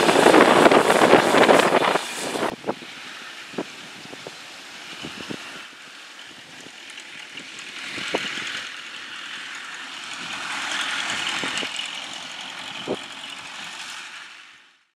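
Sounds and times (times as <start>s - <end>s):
tractor engine running: 0.0s - 14.8s.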